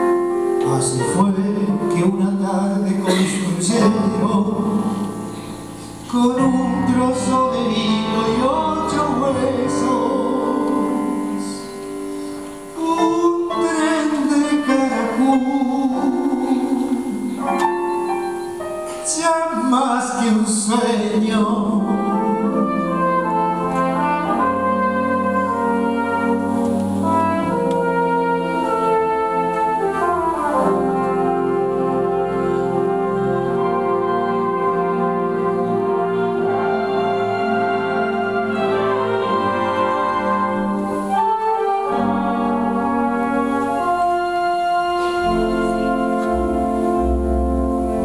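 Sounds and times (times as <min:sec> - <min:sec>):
wind band playing held chords: 0:00.0 - 0:20.2, 0:20.9 - 0:48.0.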